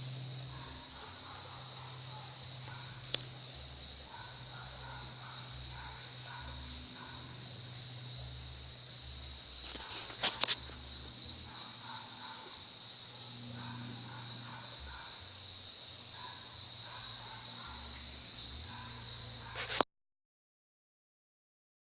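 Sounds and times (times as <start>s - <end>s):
insects buzzing: 0.0s - 19.8s.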